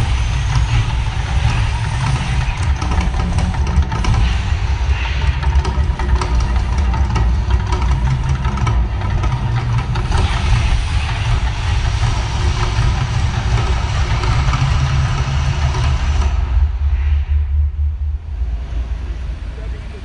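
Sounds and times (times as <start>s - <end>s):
deep rumble: 0.0s - 20.0s.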